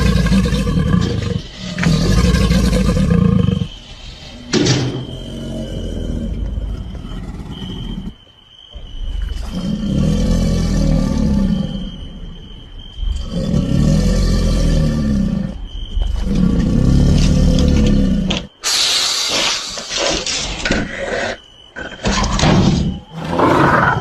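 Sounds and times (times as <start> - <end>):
alligator growling: 0.0 - 8.2, 8.8 - 18.6, 19.3 - 24.0.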